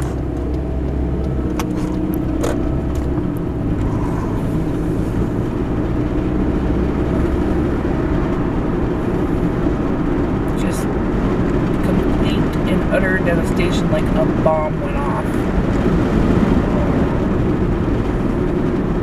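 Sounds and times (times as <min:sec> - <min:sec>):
car cabin engine and tyre noise: 0:00.0 - 0:19.0.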